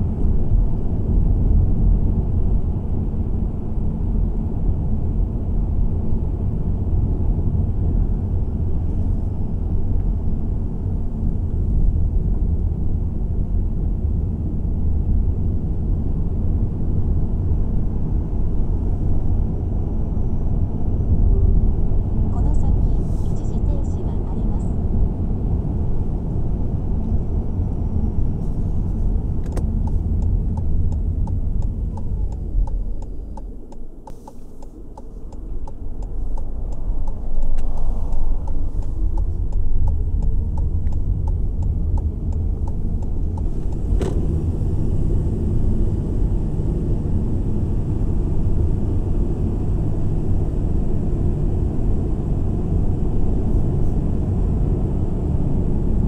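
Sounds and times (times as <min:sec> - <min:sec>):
car tyre and engine rumble: 0:00.0 - 0:23.9, 0:24.6 - 0:56.0.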